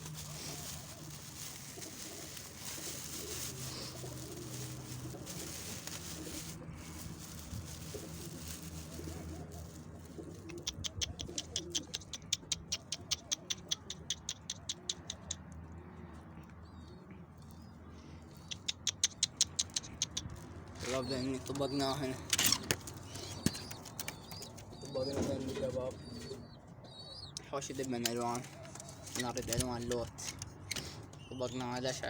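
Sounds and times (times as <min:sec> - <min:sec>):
pigeons cooing: 0:00.1 - 0:15.2, 0:18.4 - 0:29.6.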